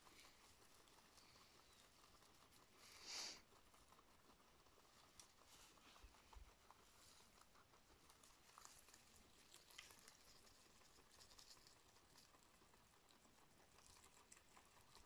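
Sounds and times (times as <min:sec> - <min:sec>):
quiet hiss: 0:00.0 - 0:15.0
small animals chewing grass: 0:00.0 - 0:15.0.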